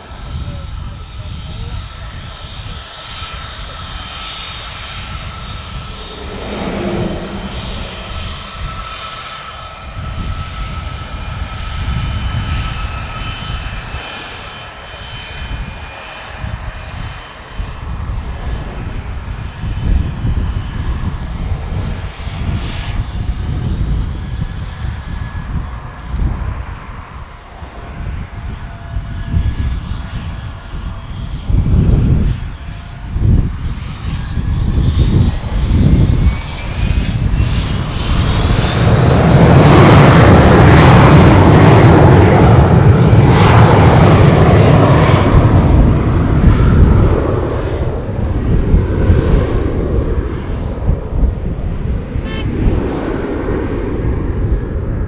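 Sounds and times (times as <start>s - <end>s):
aircraft engines whining and rumbling: 0.0s - 55.0s.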